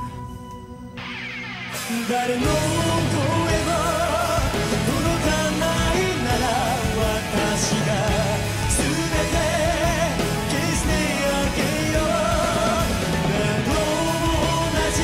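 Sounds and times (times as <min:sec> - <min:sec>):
rock band playing: 0:00.0 - 0:15.0
man singing with vibrato: 0:01.8 - 0:15.0.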